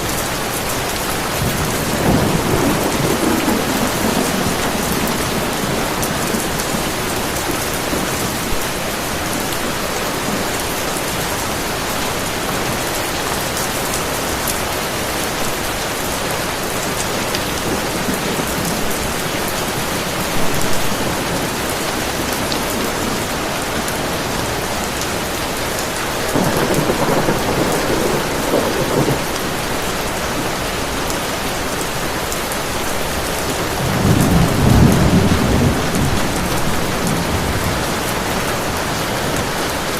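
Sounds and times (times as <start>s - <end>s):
thunder rumbling: 0.0s - 12.3s, 16.4s - 39.9s
heavy rain falling: 0.0s - 39.9s.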